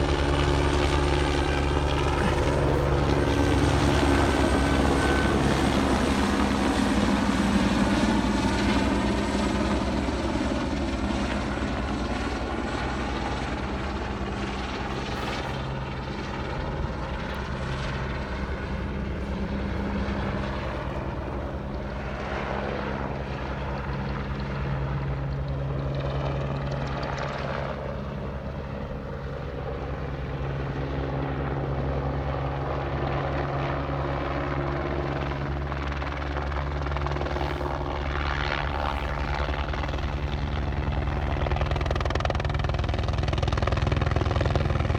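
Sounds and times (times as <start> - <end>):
helicopter rotor beating: 0.0 - 44.9.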